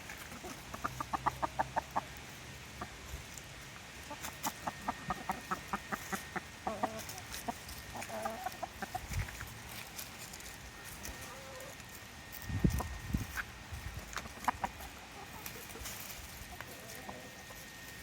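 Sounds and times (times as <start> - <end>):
hens clucking softly: 0.0 - 17.9.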